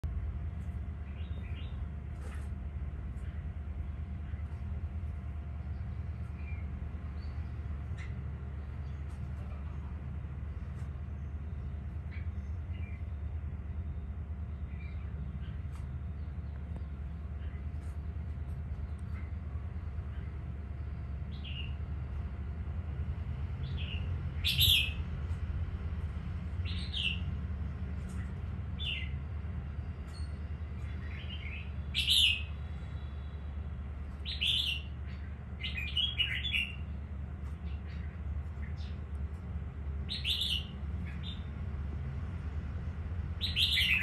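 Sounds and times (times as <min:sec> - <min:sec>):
birds chirping: 0:00.0 - 0:22.6, 0:23.4 - 0:42.0, 0:43.3 - 0:44.0
steady low rumble: 0:00.0 - 0:44.0.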